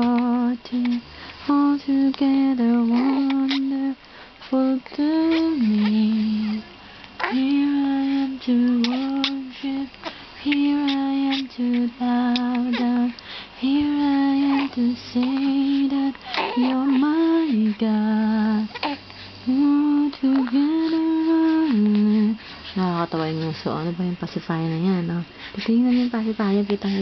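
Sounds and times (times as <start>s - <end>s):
woman singing lullaby: 0.0s - 27.0s.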